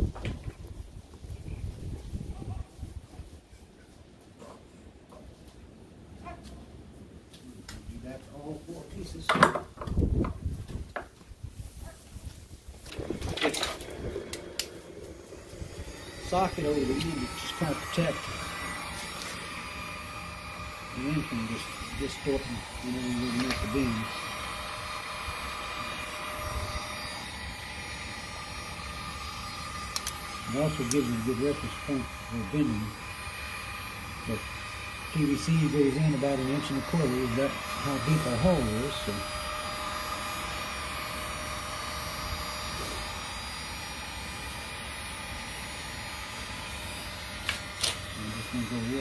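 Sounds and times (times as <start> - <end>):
heat gun fan blowing: 7.6 - 49.0.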